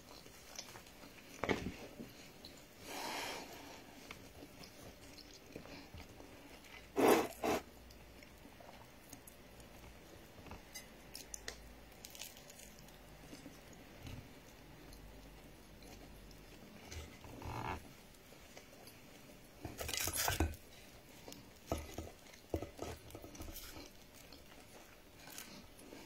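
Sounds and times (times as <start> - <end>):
person chewing crunchy food: 3.5 - 26.0.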